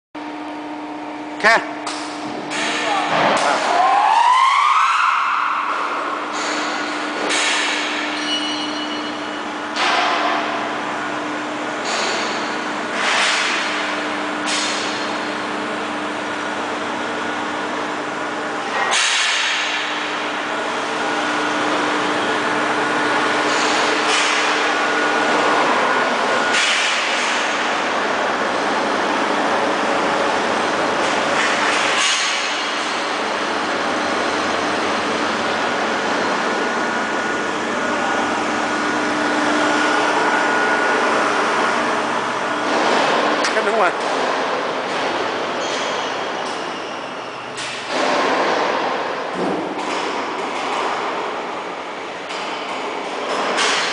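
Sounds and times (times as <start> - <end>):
mixer machine mechanical hum: 0.2 - 4.0, 5.6 - 18.9, 19.5 - 53.9.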